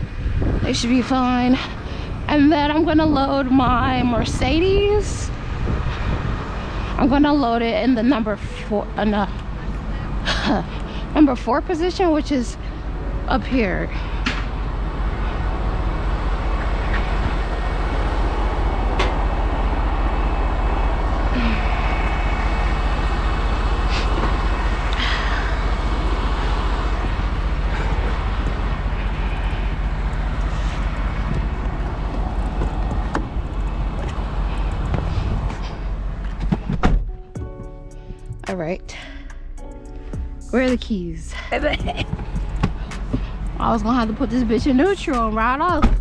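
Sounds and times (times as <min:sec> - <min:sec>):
diesel truck engine idling: 0:00.0 - 0:46.0.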